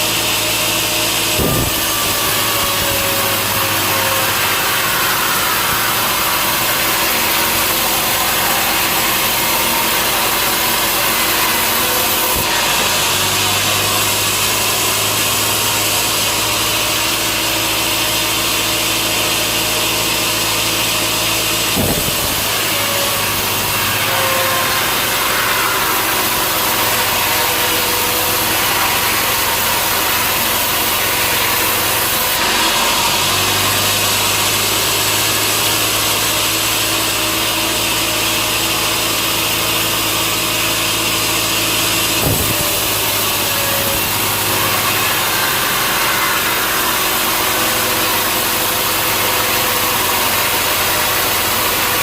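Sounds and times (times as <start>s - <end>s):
sawmill saw cutting log: 0.0s - 52.0s.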